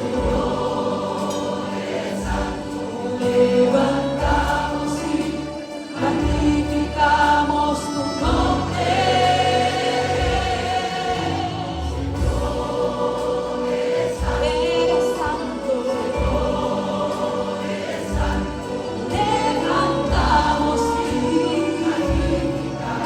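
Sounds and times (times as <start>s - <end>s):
church choir singing: 0.0s - 23.0s
instrumental accompaniment with bass: 0.0s - 23.0s.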